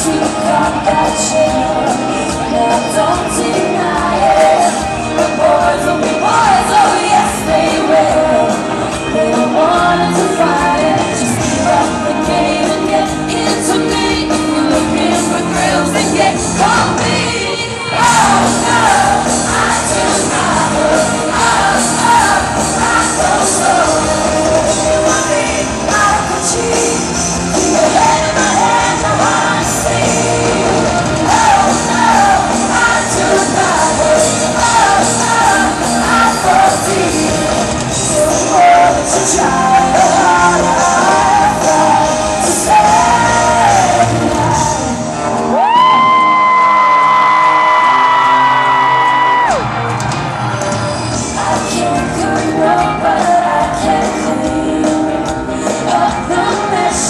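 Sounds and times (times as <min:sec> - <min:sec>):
woman singing lead vocals: 0:00.0 - 0:49.6, 0:51.1 - 0:57.0
live pop-rock band: 0:00.0 - 0:57.0.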